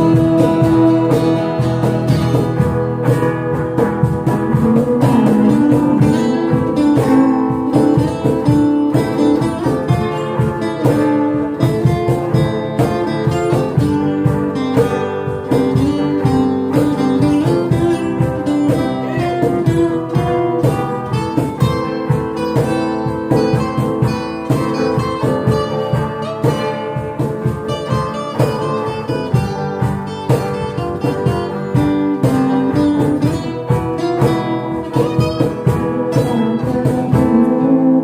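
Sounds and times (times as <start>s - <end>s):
acoustic guitar playing: 0.0s - 38.0s.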